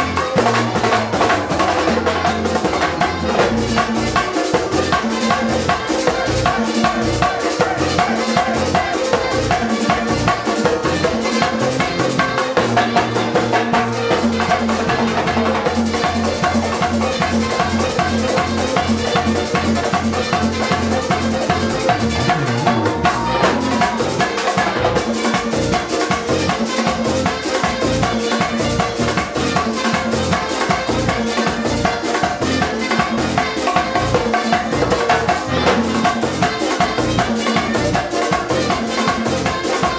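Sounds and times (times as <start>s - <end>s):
bass line: 0.0s - 39.9s
drums and percussion: 0.0s - 39.9s
guitar: 0.0s - 39.9s
keyboard: 0.0s - 39.9s.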